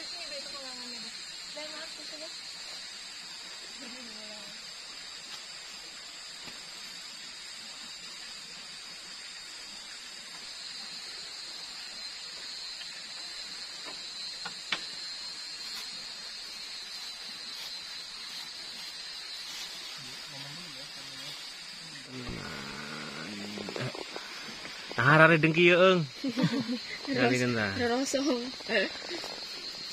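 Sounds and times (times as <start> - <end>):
night insects chorus: 0.0 - 29.9.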